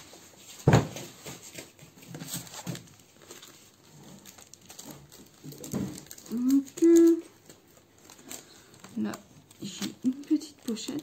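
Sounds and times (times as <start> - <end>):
rustling: 0.0 - 11.0.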